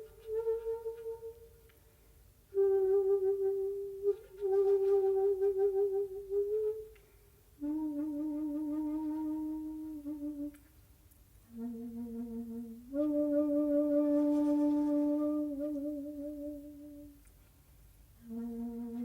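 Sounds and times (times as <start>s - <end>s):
bamboo flute long notes: 0.0s - 1.7s, 2.5s - 10.6s, 11.4s - 17.2s, 18.2s - 19.0s.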